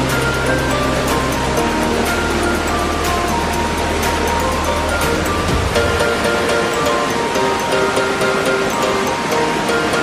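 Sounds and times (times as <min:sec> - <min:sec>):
background music melody: 0:00.0 - 0:10.0
waterfall rushing: 0:00.0 - 0:10.0.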